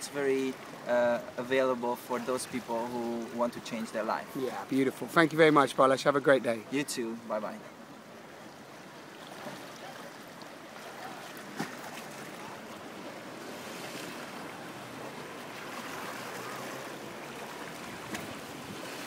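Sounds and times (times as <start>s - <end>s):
waves on rocky shore: 0.0s - 19.0s.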